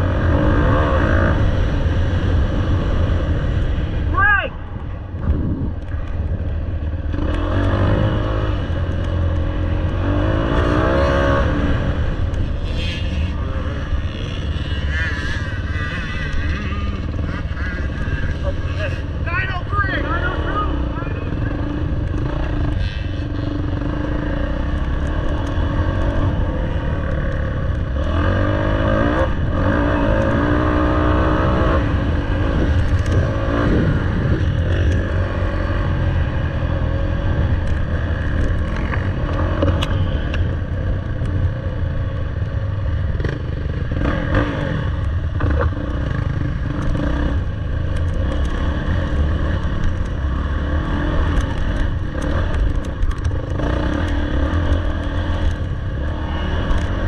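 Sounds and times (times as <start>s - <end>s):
dirt bike engine revving: 0.0s - 3.6s, 7.0s - 41.8s, 42.6s - 57.0s.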